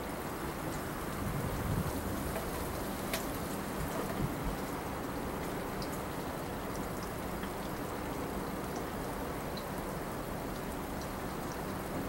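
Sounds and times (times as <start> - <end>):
rain and wet snow falling: 0.0 - 12.0.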